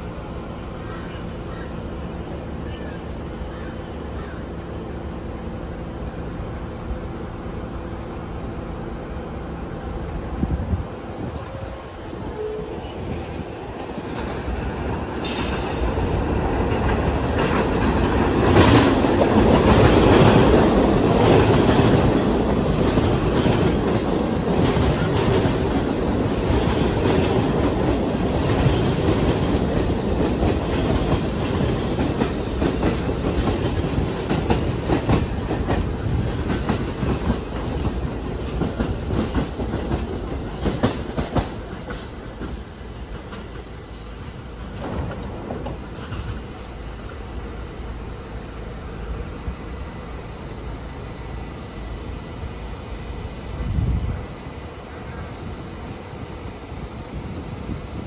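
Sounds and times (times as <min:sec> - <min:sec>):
subway train wheels clattering: 0:00.0 - 0:58.0.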